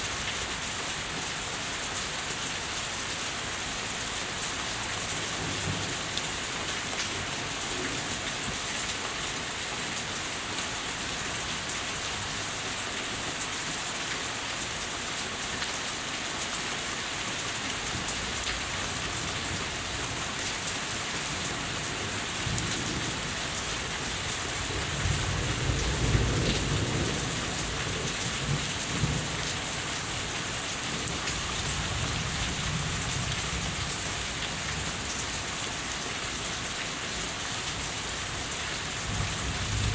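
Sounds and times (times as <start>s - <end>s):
rain falling on a house: 0.0s - 39.9s.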